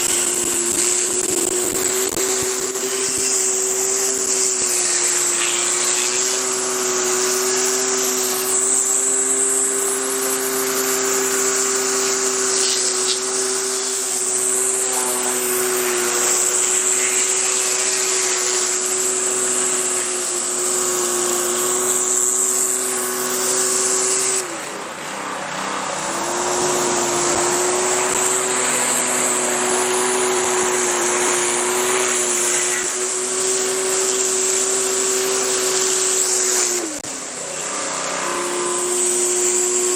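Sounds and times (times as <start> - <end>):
high-pressure water spray hissing: 0.0 - 39.9
pressure washer engine humming: 0.0 - 39.9.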